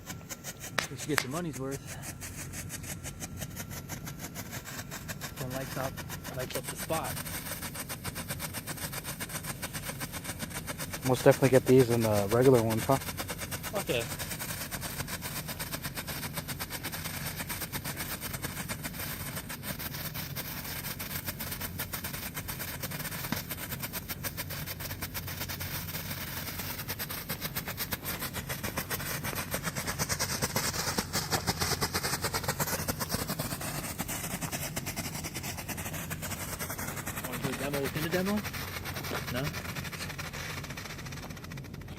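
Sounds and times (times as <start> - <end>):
strobe firework crackling: 0.0 - 41.9.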